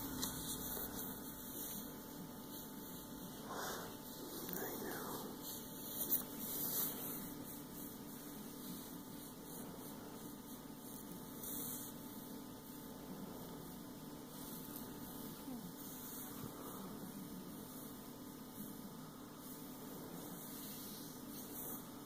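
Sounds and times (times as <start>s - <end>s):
faint hiss: 0.0s - 22.0s
low steady hum: 0.0s - 22.0s.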